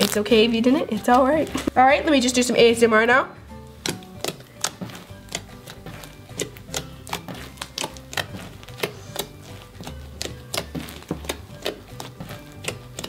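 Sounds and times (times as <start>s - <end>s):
slime beads crackling: 0.0s - 1.8s, 3.7s - 13.0s
background music: 0.0s - 13.0s.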